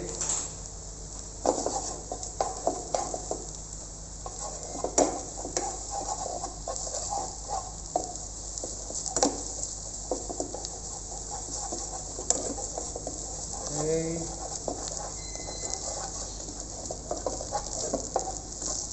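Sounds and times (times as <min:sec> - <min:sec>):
food sizzling in a pan: 0:01.3 - 0:18.9
utensil scraping a pan: 0:01.4 - 0:03.4, 0:04.2 - 0:18.9.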